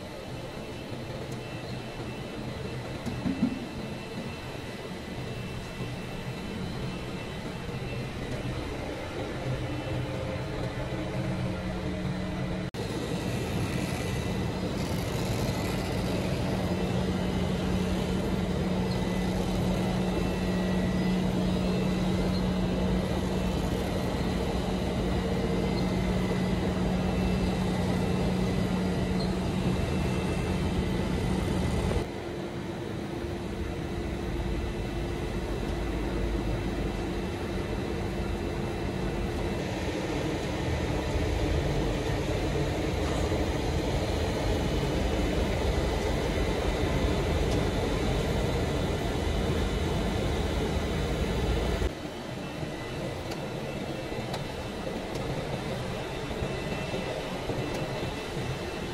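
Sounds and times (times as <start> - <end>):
factory machinery humming: 0.0 - 58.9.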